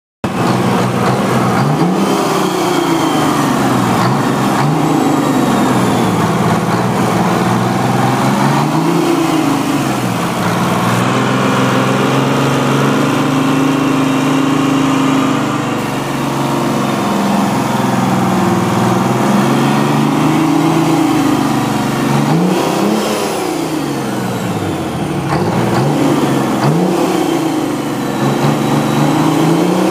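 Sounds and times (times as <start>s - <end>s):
diesel engine revving: 0.2s - 29.9s.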